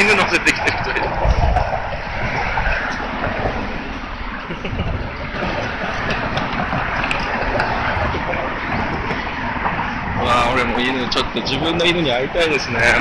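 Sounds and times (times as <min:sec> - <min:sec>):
car traffic: 0:00.0 - 0:13.0
wind gusting on microphone: 0:00.0 - 0:13.0.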